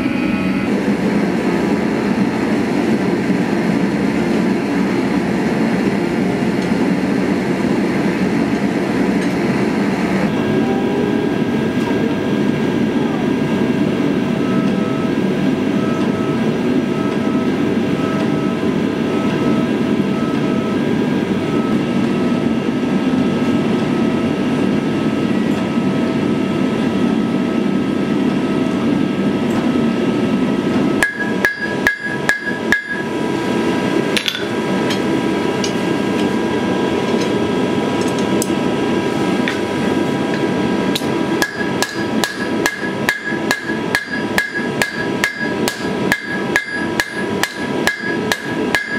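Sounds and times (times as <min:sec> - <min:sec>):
steady mechanical roar: 0:00.0 - 0:48.9.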